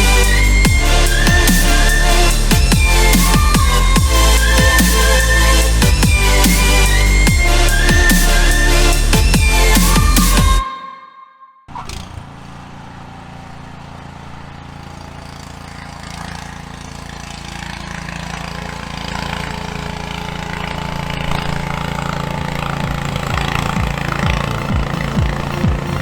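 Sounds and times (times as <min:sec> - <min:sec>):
engine humming: 0:00.0 - 0:10.6, 0:11.8 - 0:26.0.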